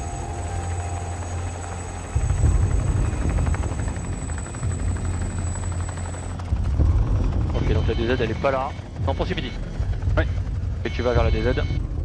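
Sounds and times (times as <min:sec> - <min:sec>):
helicopter engines running: 0:00.0 - 0:12.0
helicopter rotor thudding: 0:00.0 - 0:12.0.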